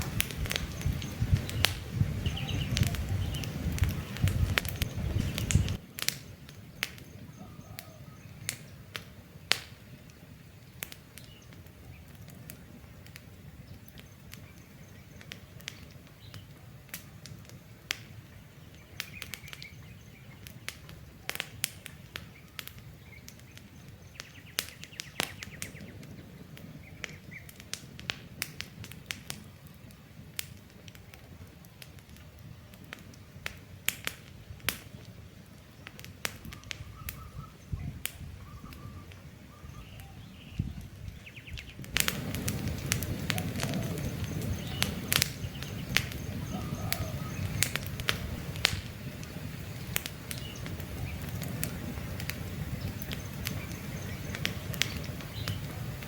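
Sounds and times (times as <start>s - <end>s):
birds chirping: 0.0s - 5.8s, 6.4s - 27.7s, 34.9s - 56.0s
campfire crackling and popping: 0.0s - 56.0s.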